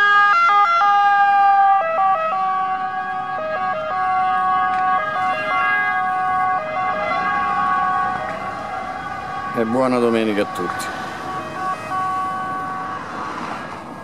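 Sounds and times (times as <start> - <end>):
ambulance siren two-tone: 0.0 - 13.9.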